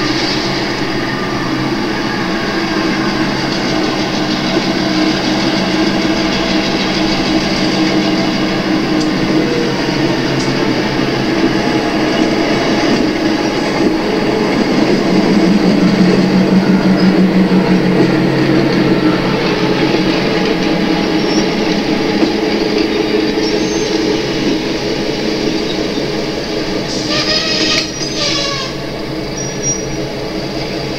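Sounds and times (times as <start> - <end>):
model locomotive engine: 0.0 - 30.9
model train wheels on track: 0.0 - 30.9.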